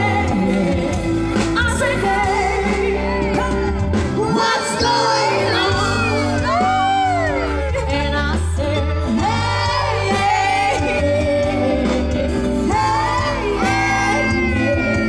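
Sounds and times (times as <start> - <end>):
heavy bass: 0.0 - 15.0
live band playing amplified music: 0.0 - 15.0
person singing: 0.0 - 15.0.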